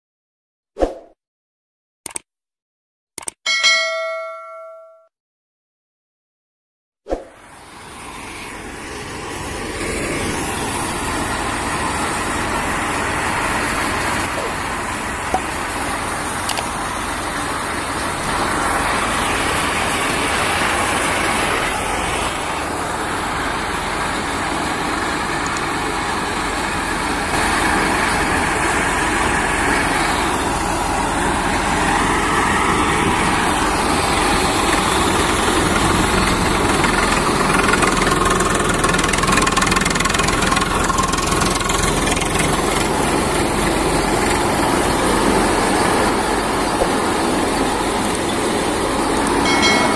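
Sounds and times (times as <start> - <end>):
tractor diesel engine under load: 7.4 - 49.9.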